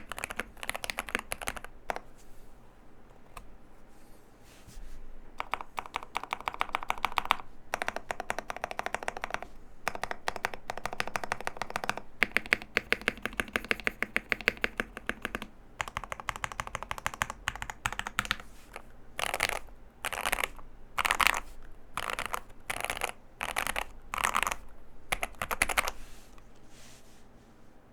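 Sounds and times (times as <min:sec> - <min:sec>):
typing on mechanical keyboard: 0:00.0 - 0:02.1, 0:05.4 - 0:26.0.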